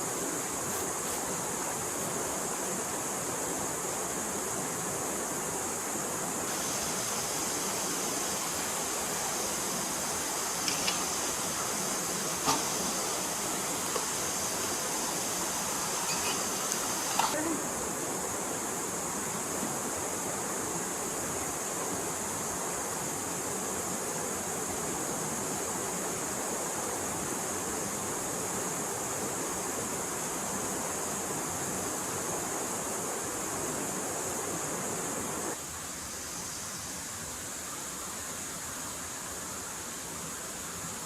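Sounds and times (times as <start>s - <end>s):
stream water rushing: 0.0s - 41.0s.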